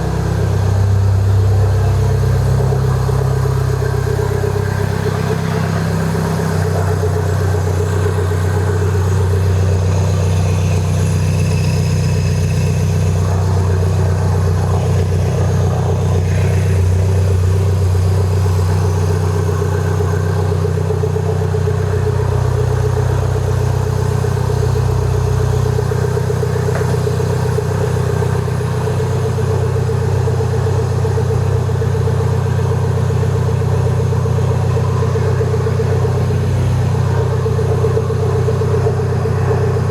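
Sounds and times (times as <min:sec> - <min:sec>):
car engine idling loudly: 0:00.0 - 0:39.9.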